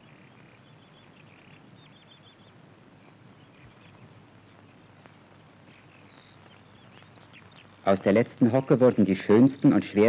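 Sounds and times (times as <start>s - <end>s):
faint birds chirping: 0.0s - 10.0s
steady hiss: 0.0s - 10.0s.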